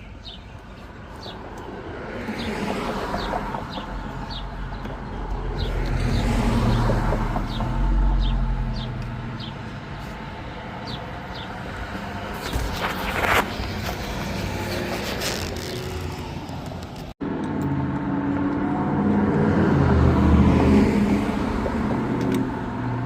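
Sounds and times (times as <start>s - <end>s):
vehicle engine rumbling: 0.2s - 23.0s.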